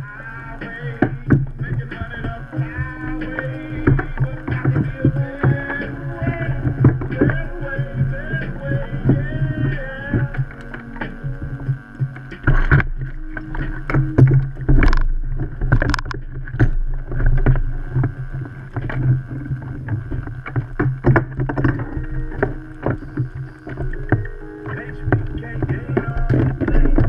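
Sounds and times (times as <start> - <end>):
water lapping against kayak hull: 0.0 - 27.0.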